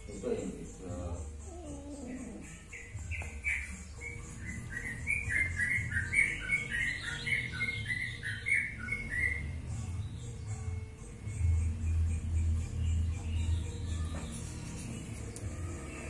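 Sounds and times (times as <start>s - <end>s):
small birds chirping: 0.0s - 11.5s, 12.3s - 16.0s.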